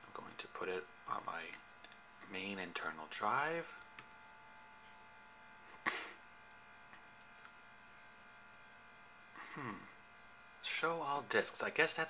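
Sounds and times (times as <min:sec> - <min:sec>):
faint electrical buzz: 0:00.0 - 0:12.0.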